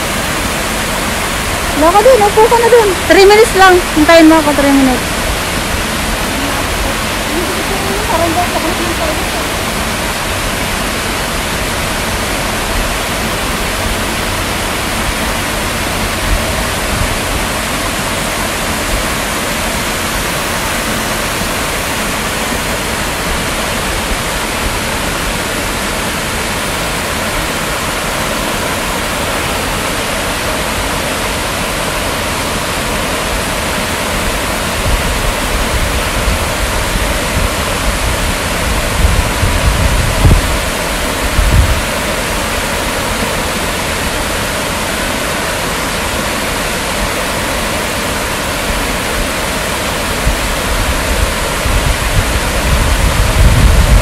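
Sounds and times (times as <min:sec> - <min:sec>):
waterfall splashing into pond: 0:00.0 - 0:54.0.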